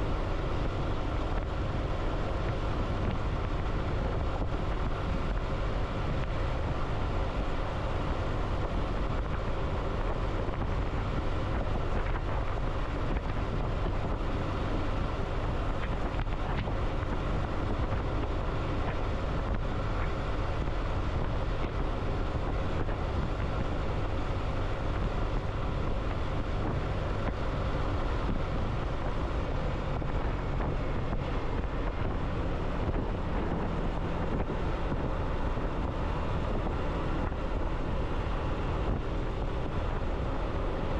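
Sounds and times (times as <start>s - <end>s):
road noise: 0.0s - 40.9s
vehicle engine: 0.0s - 40.9s
wind rush on microphone: 0.0s - 40.9s.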